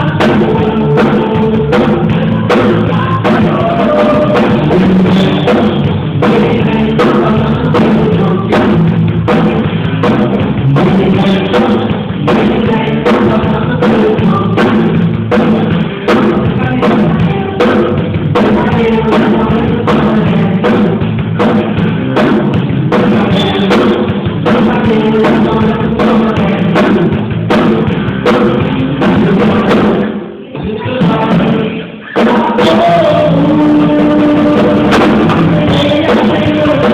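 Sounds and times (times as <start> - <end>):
band playing worship song: 0.0 - 36.9
drum kit beat: 0.0 - 36.9.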